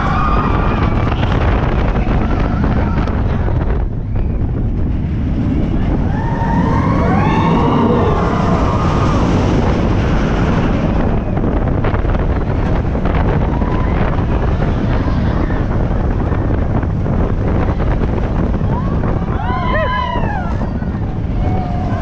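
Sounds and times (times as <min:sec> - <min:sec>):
roller coaster train running: 0:00.0 - 0:22.0
wheels rattling on track: 0:00.0 - 0:22.0
wind rushing over microphone: 0:00.0 - 0:22.0.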